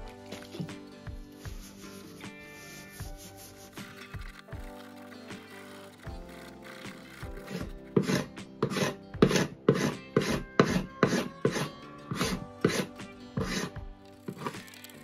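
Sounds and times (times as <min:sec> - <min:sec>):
hand scraper rasping on wood: 0:01.4 - 0:14.6.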